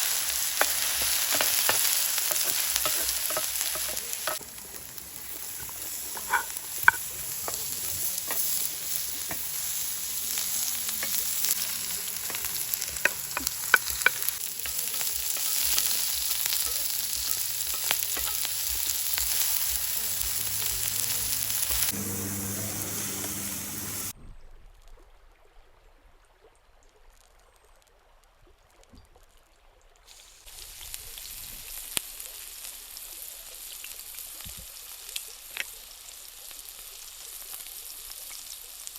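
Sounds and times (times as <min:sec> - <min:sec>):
food sizzling in a pan: 0:00.0 - 0:24.2, 0:30.1 - 0:38.9.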